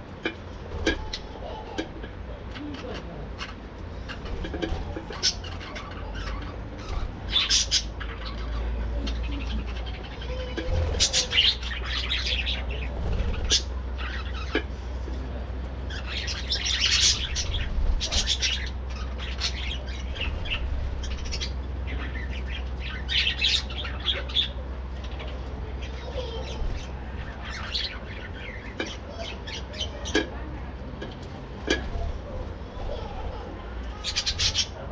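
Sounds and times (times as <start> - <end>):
budgerigars chirping and chattering: 0.6 - 34.9.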